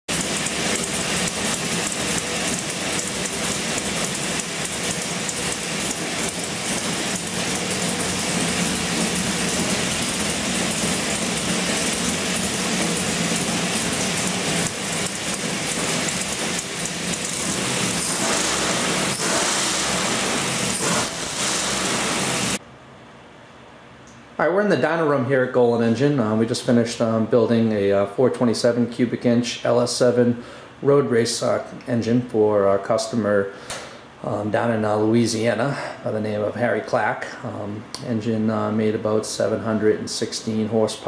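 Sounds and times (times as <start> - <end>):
engine droning on dyno: 0.1 - 41.0.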